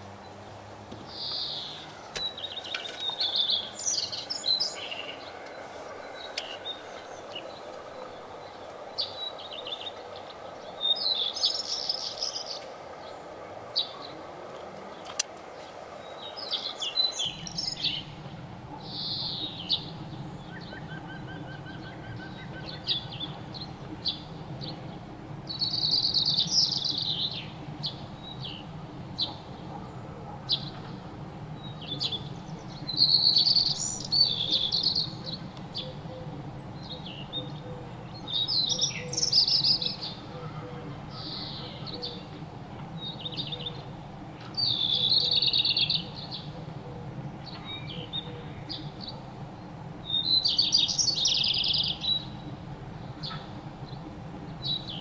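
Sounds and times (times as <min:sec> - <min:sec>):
songbirds chirping: 0:00.0 - 0:55.0
steady low hum: 0:00.0 - 0:55.0.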